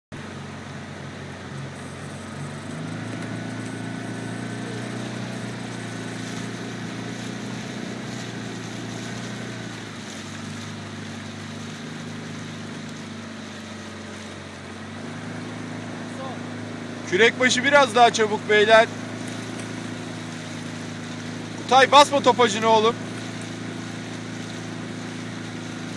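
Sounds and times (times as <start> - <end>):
boat engine running: 0.1 - 25.9
water noise: 0.1 - 25.9.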